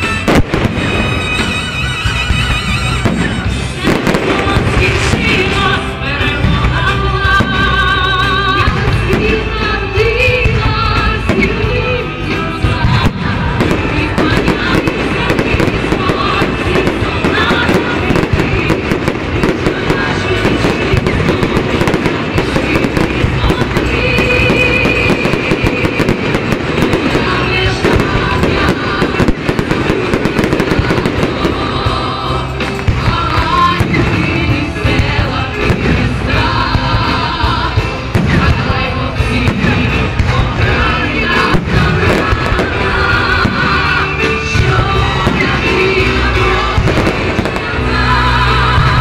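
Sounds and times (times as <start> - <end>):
fireworks bangs and crackles: 0.0 - 49.0
loud music: 0.0 - 49.0.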